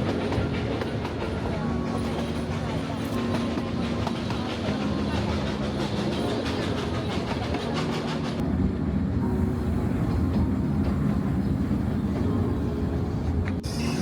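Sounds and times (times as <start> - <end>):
train carriages rumbling on rails: 0.0 - 14.0.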